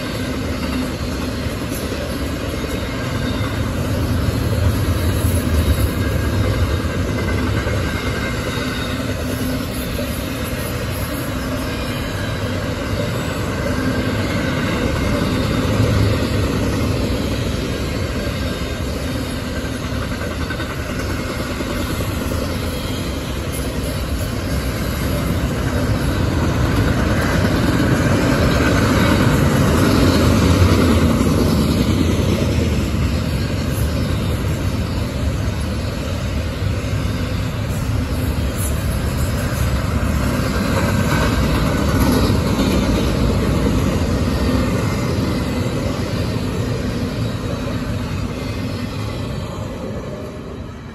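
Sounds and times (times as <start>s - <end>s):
freight train wheels rumbling on rails: 0.0s - 50.9s.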